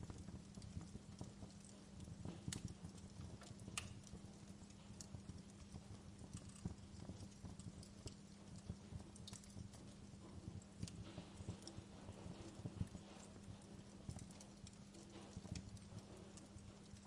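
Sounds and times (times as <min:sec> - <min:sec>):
low steady hum: 0:00.0 - 0:17.0
wood fire crackling: 0:00.0 - 0:17.0.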